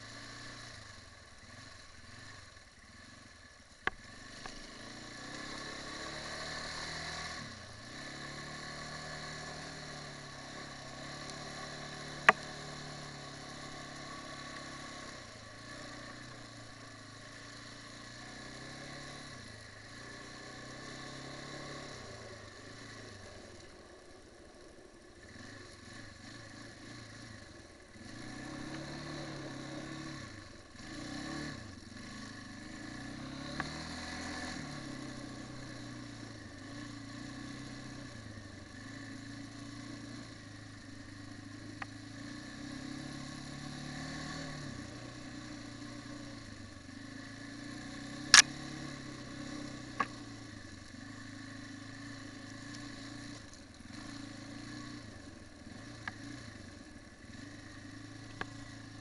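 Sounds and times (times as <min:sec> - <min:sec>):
quad bike engine revving: 0:00.0 - 0:03.2, 0:03.8 - 0:23.5, 0:25.2 - 0:59.0.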